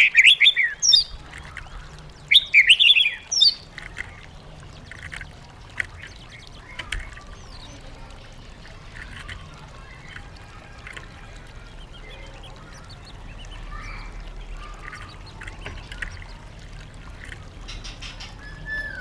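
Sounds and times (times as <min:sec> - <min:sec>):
bird chirps and clicks: 0:00.0 - 0:19.0.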